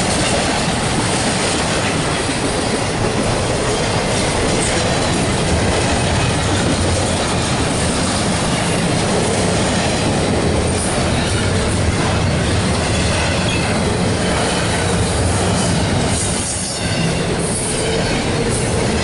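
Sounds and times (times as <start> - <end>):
freight train wheels rolling: 0.0 - 19.0.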